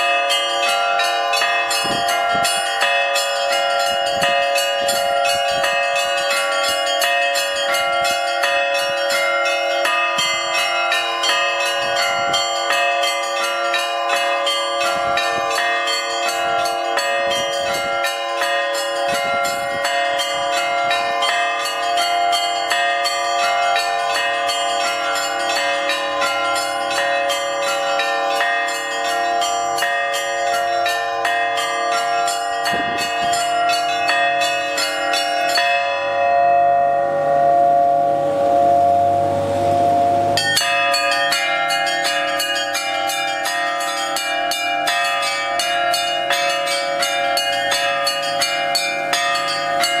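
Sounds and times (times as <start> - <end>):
church bells pealing: 0.0 - 50.0.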